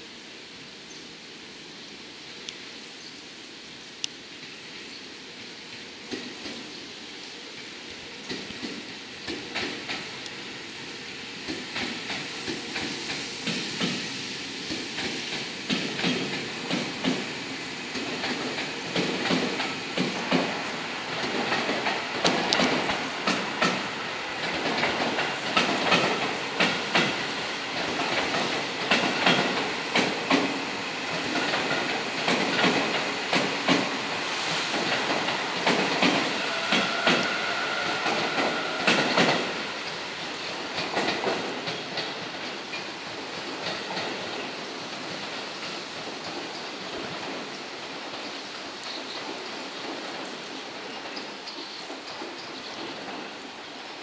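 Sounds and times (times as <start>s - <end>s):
train wheels clacking on rails: 5.7s - 6.8s, 7.4s - 54.0s.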